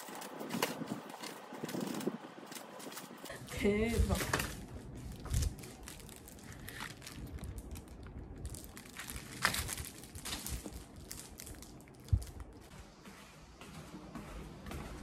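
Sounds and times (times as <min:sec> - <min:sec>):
plastic wrap crinkling: 0:00.0 - 0:12.7.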